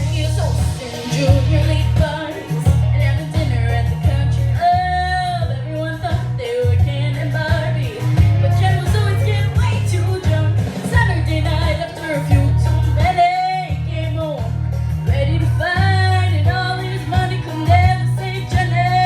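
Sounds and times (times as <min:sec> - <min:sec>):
girl singing country-pop song: 0:00.0 - 0:19.0
instrumental backing with bass: 0:00.0 - 0:19.0.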